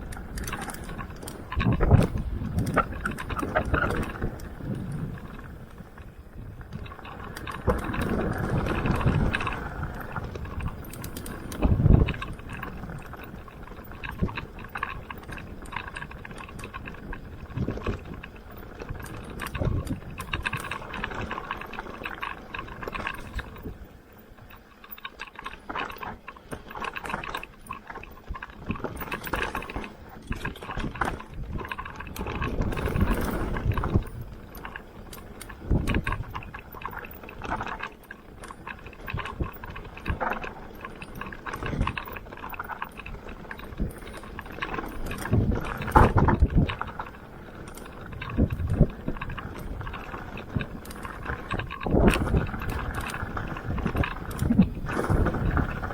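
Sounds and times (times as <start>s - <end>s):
bike chain and frame rattling: 0.0s - 55.9s
bike tyres on dirt: 0.0s - 55.9s.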